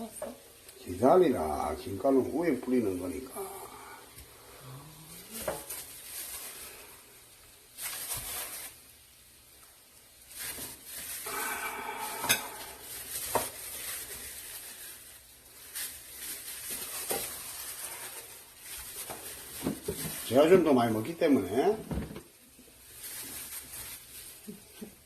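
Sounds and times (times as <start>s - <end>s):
noodles rustling and scraping in bowl: 0.0s - 4.5s, 5.1s - 25.0s.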